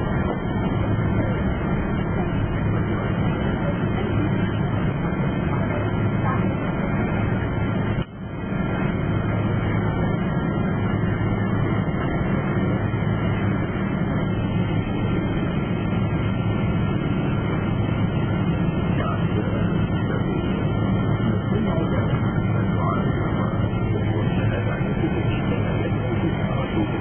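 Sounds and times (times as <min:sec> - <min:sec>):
airliner cabin engine hum: 0:00.0 - 0:27.0.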